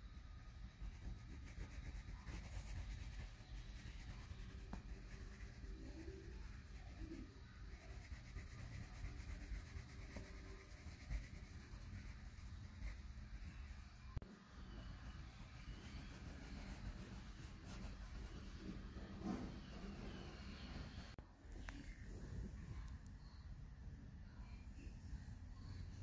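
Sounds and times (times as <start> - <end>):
pencil shading on paper: 0.2 - 21.2.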